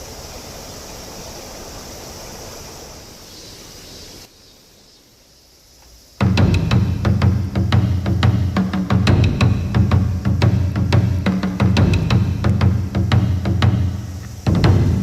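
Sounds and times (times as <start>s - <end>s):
mountain stream rushing: 0.0s - 4.3s, 6.2s - 15.0s.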